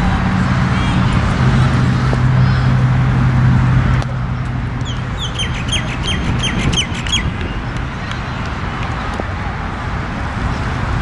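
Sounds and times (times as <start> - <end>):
low hum with noise rush: 0.0 - 11.0.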